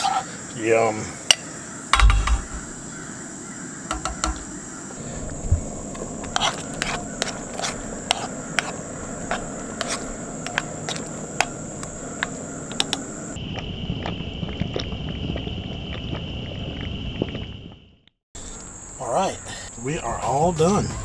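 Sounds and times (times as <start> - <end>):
high insect drone: 0.0 - 17.8, 18.4 - 21.0
low insect trill: 0.0 - 21.0.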